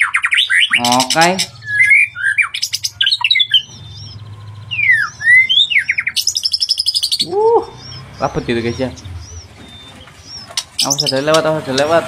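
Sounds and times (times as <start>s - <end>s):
songbird whistling song: 0.0s - 11.4s.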